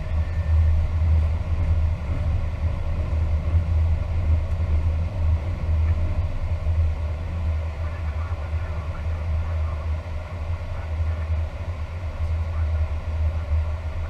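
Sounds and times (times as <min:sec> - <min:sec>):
cockpit low rumble: 0:00.0 - 0:14.0.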